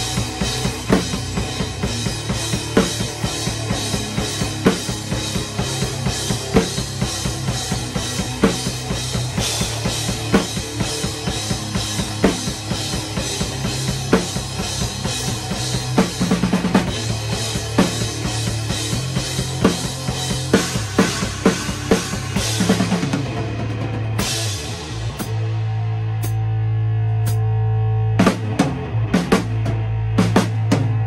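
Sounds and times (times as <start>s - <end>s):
drum roll: 0.0s - 25.5s
bass drum: 0.0s - 27.6s, 28.2s - 31.0s.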